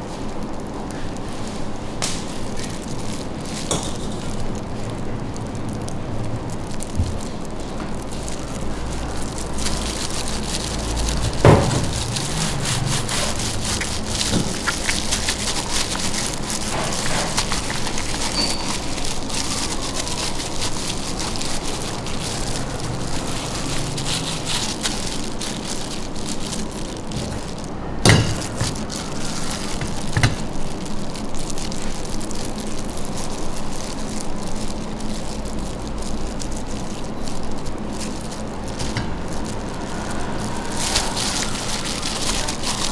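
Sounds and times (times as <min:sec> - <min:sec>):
crackling hiss: 0:00.0 - 0:42.9.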